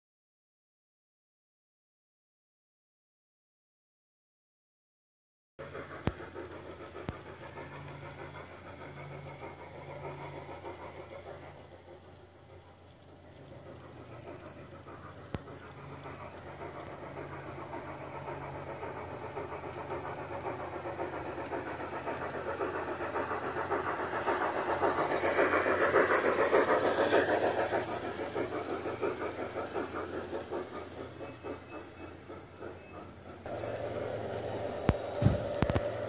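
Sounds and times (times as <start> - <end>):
model train running on track: 5.6 - 36.0.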